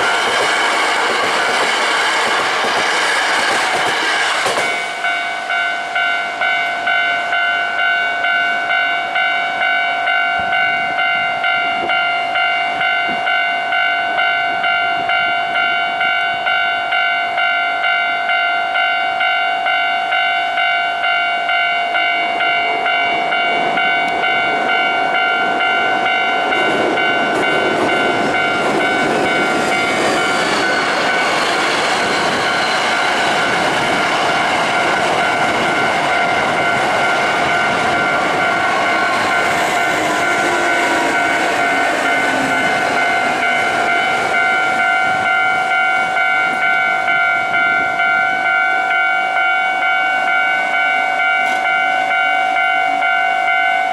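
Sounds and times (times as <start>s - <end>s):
train wheels rushing on rails: 0.0s - 18.4s, 19.2s - 53.9s
level-crossing warning bell: 0.0s - 53.9s.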